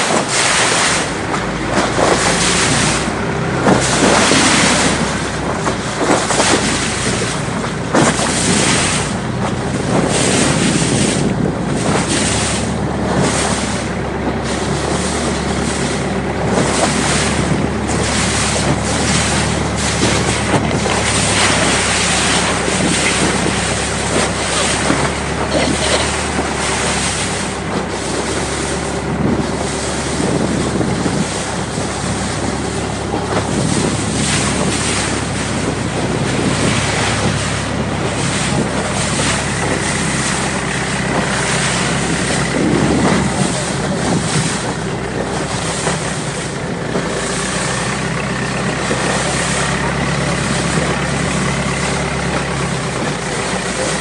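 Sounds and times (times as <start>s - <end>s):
boat engine humming: 0.0s - 54.0s
water rushing along hull: 0.0s - 54.0s
wind buffeting microphone: 0.0s - 54.0s.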